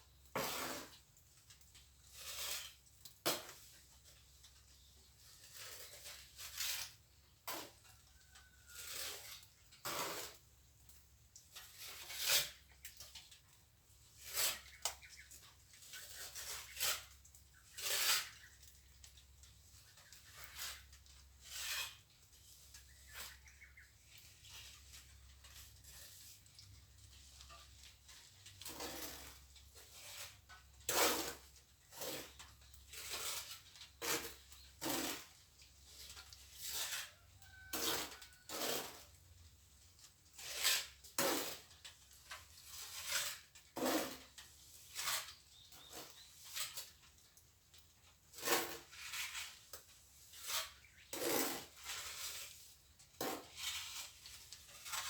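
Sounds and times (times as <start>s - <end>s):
trowel scraping mortar: 0.3s - 1.0s, 2.0s - 3.9s, 4.8s - 10.5s, 11.6s - 13.1s, 14.2s - 19.1s, 19.8s - 39.2s, 40.3s - 47.1s, 48.3s - 55.0s.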